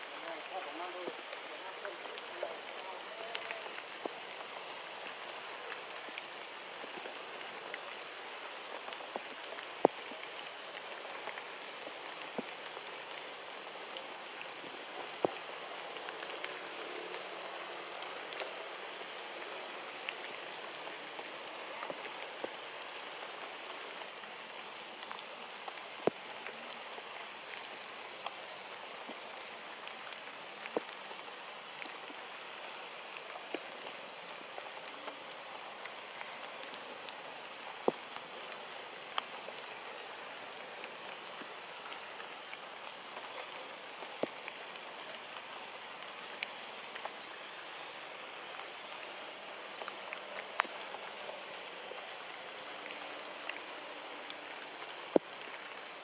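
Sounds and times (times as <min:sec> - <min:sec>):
forest ambience hiss: 0:00.0 - 0:56.0.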